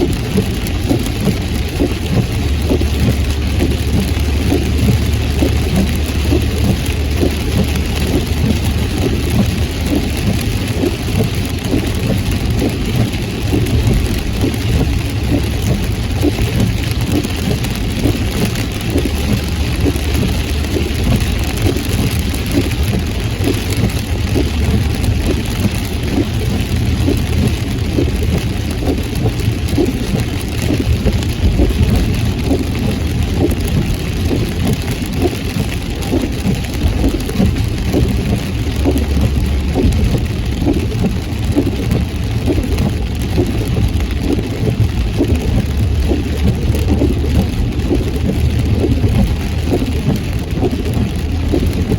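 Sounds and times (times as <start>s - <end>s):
rain pattering on a car: 0.0s - 51.9s
road and engine rumble: 0.0s - 51.9s.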